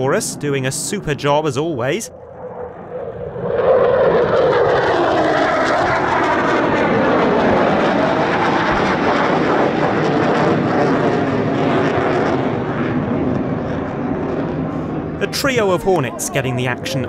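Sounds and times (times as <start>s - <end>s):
fighter jet engines roaring: 0.0s - 17.0s.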